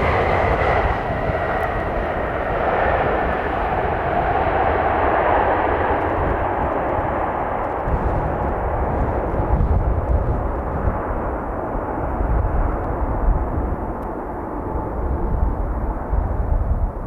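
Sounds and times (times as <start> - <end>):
jet engines rushing: 0.0 - 15.8
wind rumbling on microphone: 0.0 - 17.0.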